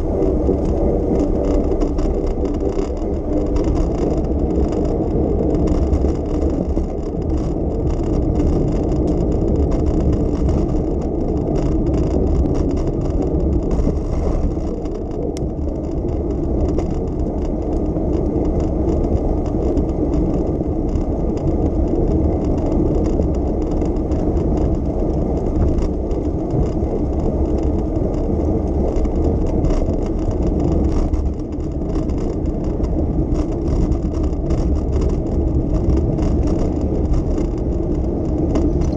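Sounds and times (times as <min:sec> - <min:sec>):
city street traffic rumble: 0:00.0 - 0:38.9.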